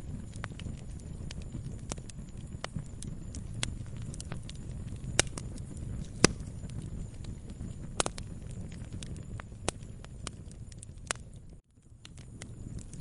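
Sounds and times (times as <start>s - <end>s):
burning wood popping and snapping: 0.0s - 13.0s
low rumble of flames: 0.0s - 13.0s.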